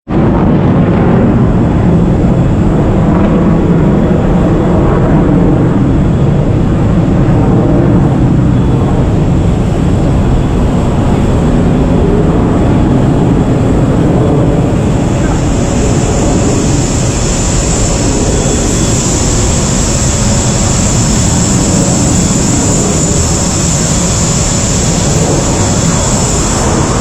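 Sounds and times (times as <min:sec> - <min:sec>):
aircraft rumble and hiss: 0:00.1 - 0:27.0.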